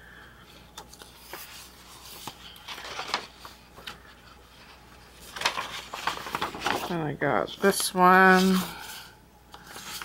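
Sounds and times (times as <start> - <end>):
paper sheets rustling: 0.8 - 10.0.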